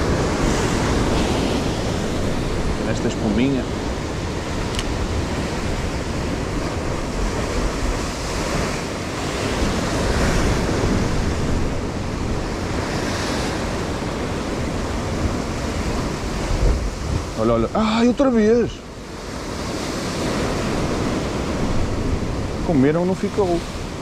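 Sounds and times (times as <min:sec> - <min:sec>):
sea waves breaking: 0:00.0 - 0:24.0
wind rumbling on microphone: 0:00.0 - 0:24.0.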